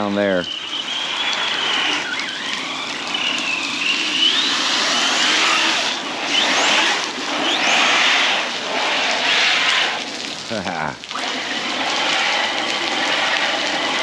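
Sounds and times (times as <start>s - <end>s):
electric motor whining: 0.0s - 14.0s
water splashing hiss: 0.0s - 14.0s.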